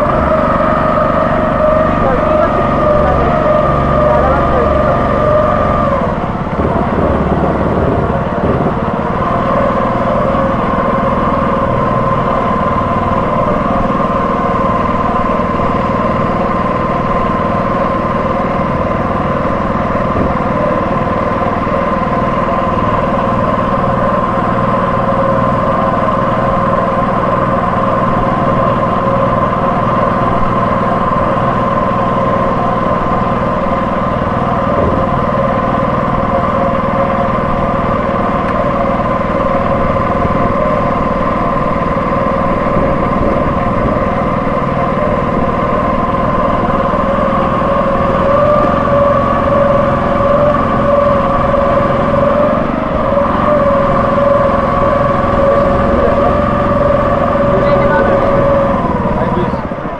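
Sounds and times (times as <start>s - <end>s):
engine humming steadily: 0.0s - 59.9s.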